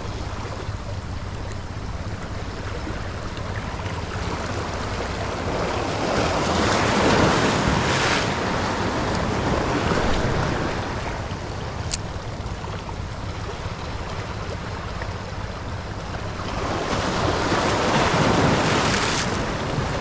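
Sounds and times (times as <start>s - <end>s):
wind rumbling on microphone: 0.0s - 14.8s, 15.6s - 20.0s
sea waves washing ashore: 0.0s - 20.0s.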